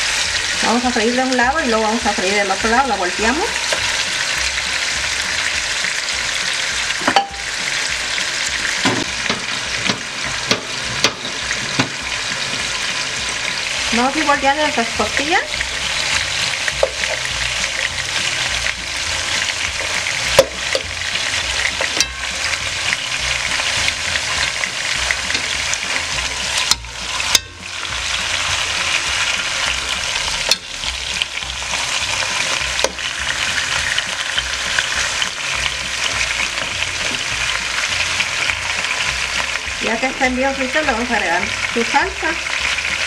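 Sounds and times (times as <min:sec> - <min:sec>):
meat sizzling in hot oil: 0:00.0 - 0:43.0.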